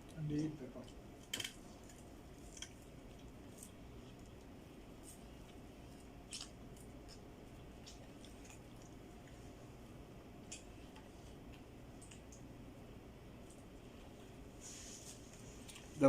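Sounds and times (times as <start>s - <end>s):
low steady hum: 0.0s - 16.0s
soft eating squishes: 0.0s - 16.0s.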